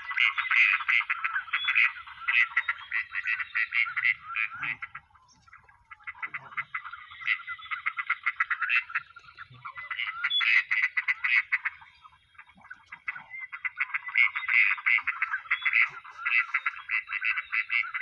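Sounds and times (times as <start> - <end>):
ducks calling: 0.0 - 18.0.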